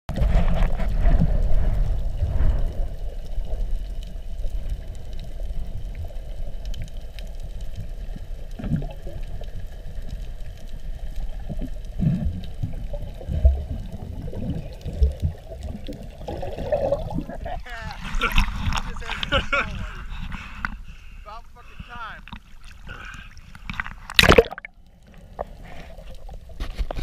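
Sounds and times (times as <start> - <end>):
underwater rumble of moving water: 0.1 - 27.0.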